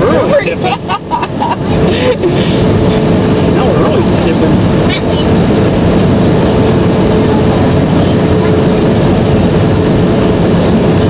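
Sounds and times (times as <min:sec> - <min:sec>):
jet engines in cabin: 0:00.0 - 0:11.0
steady hum: 0:00.0 - 0:11.0.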